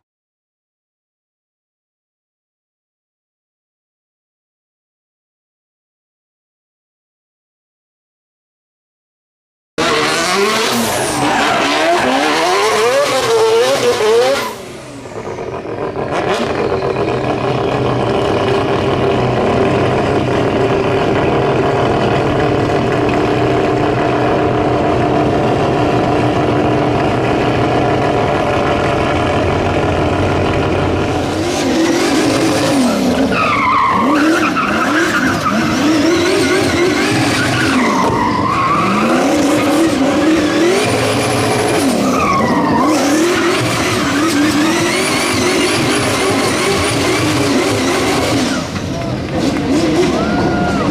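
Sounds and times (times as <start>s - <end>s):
race car engine revving: 9.8s - 50.9s.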